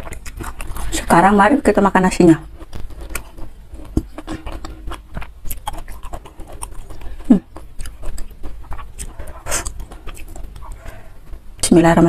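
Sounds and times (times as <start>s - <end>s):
chewing and finger clicks: 0.0s - 1.0s, 2.6s - 11.7s.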